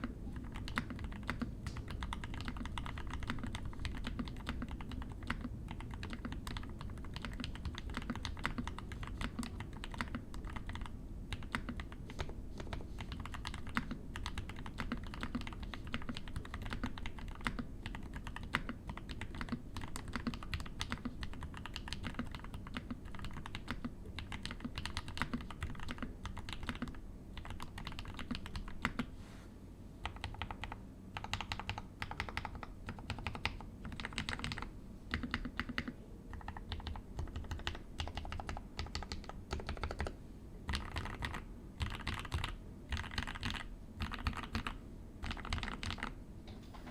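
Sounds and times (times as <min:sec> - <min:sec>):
mechanical keyboard typing: 0:00.0 - 0:29.1, 0:30.0 - 0:46.2.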